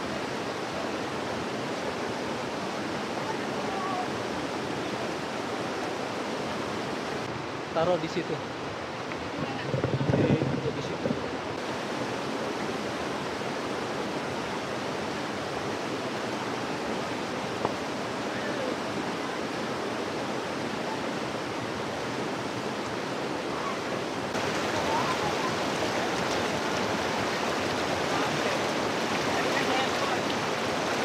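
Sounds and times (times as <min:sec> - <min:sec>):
river water rushing: 0:00.0 - 0:09.6, 0:10.8 - 0:31.0.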